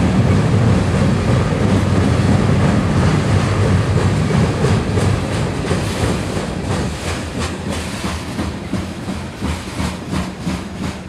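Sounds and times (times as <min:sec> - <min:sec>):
wheels clicking over rail joints: 0:01.0 - 0:11.0.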